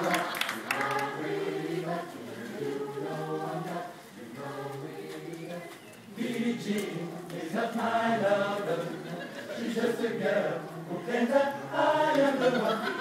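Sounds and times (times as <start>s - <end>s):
mixed choir singing a cappella: 0.0s - 13.0s.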